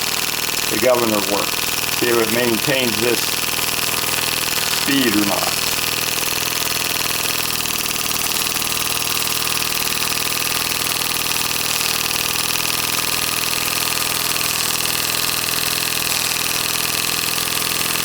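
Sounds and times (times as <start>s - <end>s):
model steam engine running: 0.0s - 18.0s.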